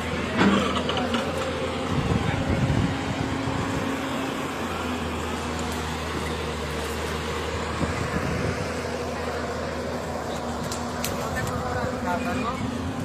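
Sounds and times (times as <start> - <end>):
engine running steadily: 0.0 - 13.0
outdoor noise: 0.0 - 13.0.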